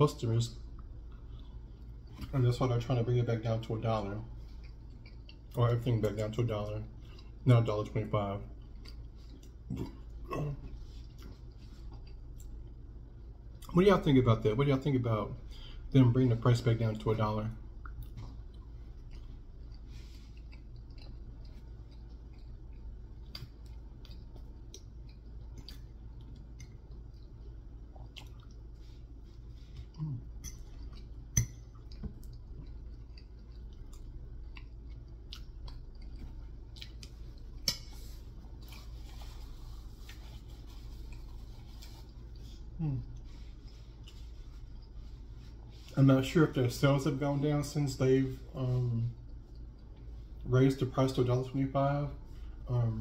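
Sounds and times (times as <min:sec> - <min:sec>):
steady low hum: 0:00.0 - 0:53.0
man chewing food: 0:00.5 - 0:13.8, 0:17.1 - 0:46.0, 0:48.3 - 0:50.5.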